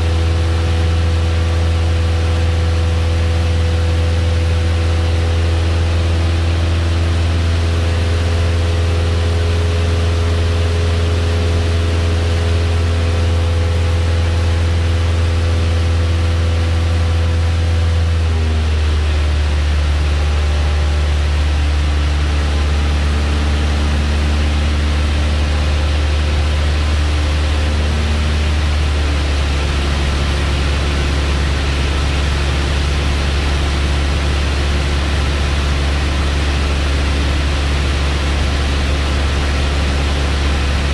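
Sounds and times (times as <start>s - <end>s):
airplane engine droning: 0.0s - 40.9s.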